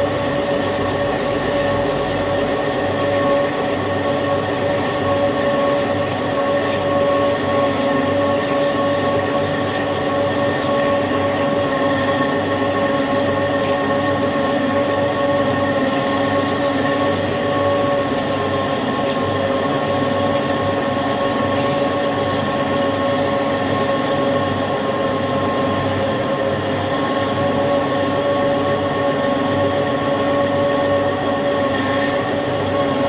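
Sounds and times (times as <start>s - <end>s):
lathe drilling with high whine: 0.0s - 33.0s.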